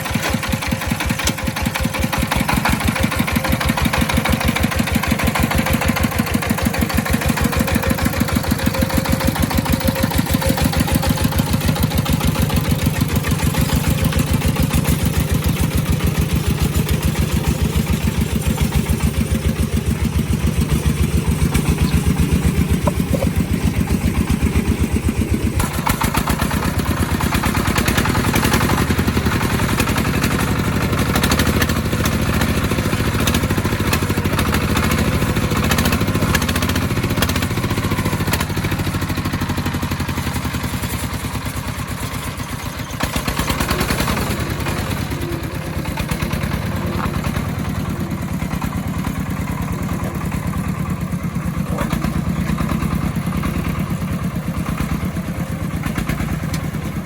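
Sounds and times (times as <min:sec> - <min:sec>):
clattering vehicle engine: 0:00.0 - 0:57.0.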